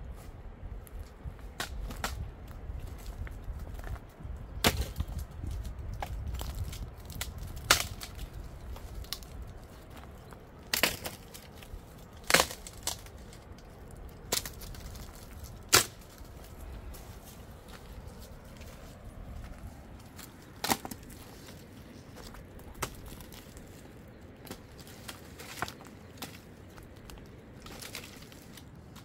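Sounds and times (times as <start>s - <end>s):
firewood snapping: 1.5s - 2.3s, 3.0s - 17.9s, 19.4s - 29.0s.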